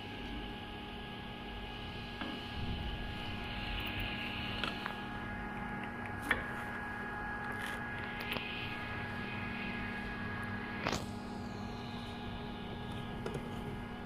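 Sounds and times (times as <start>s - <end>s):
welding machine humming and whining: 0.0s - 14.0s.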